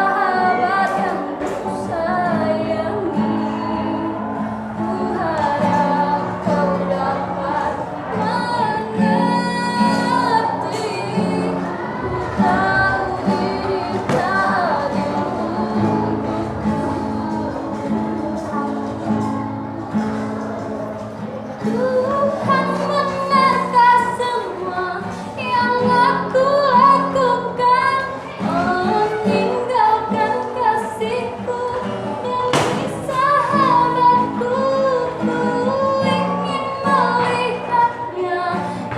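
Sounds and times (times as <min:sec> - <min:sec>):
musical accompaniment: 0:00.0 - 0:38.9
women singing: 0:00.0 - 0:38.9.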